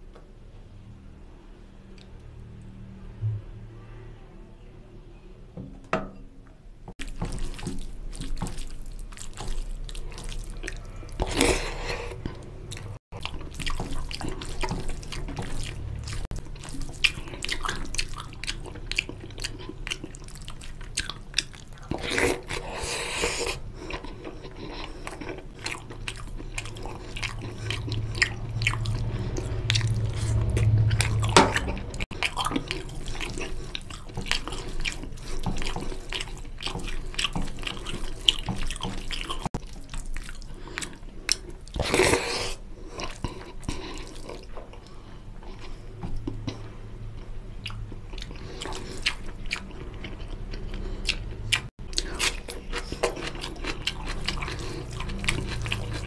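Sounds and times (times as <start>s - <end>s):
wet chewing: 7.0s - 56.0s.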